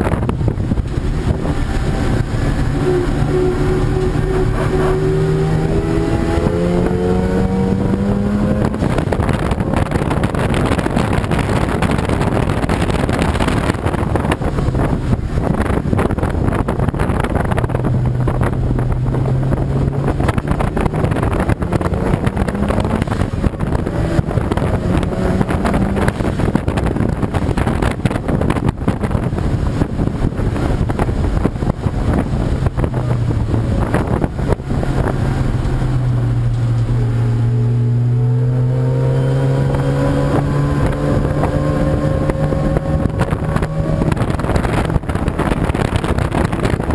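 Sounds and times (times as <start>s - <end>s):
race car engines: 0.0s - 46.9s
wind on microphone: 0.0s - 46.9s.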